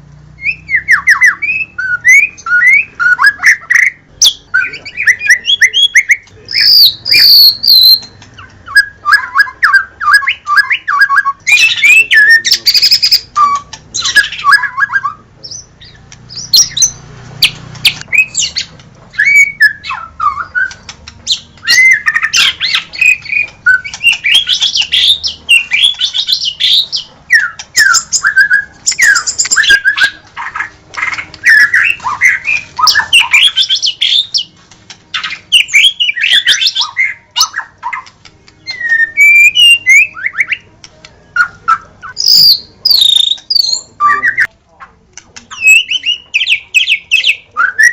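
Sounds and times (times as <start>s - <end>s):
songbird whistling and trilling: 0.4s - 34.5s, 35.1s - 44.5s, 45.5s - 47.9s.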